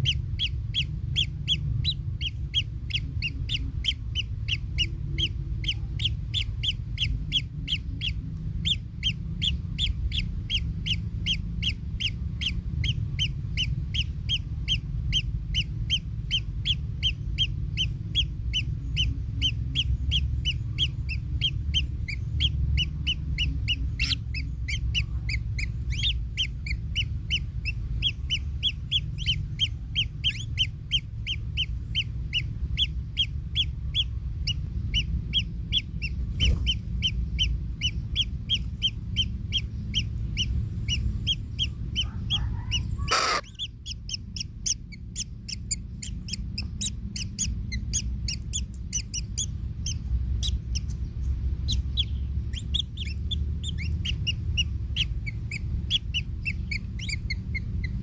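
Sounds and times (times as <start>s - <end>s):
bird chicks calling: 0.0s - 58.0s
steady low rumble: 0.0s - 58.0s.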